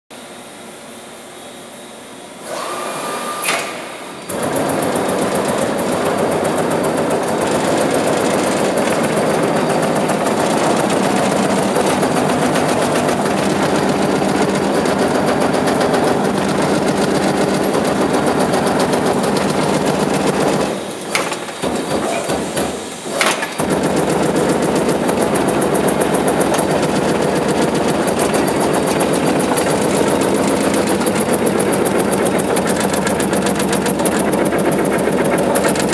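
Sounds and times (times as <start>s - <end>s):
punch press punching sheet metal: 3.4s - 35.9s.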